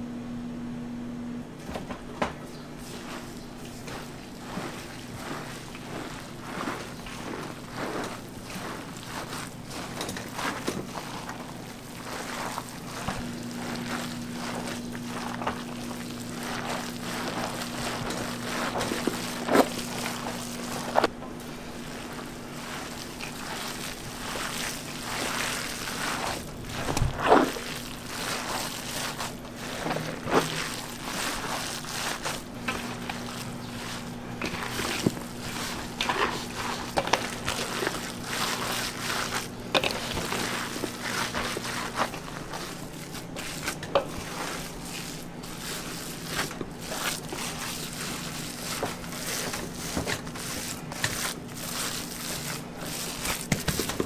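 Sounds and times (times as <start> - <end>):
steady low hum: 0.0 - 54.0
hands squishing raw meat: 2.8 - 54.0.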